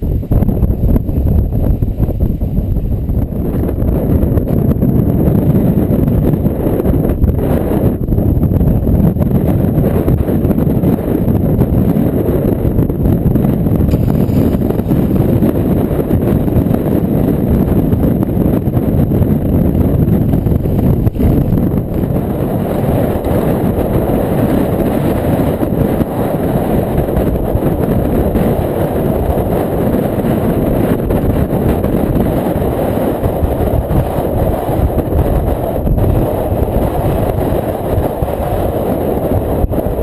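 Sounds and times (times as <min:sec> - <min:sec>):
strong wind buffeting microphone: 0:00.0 - 0:40.0.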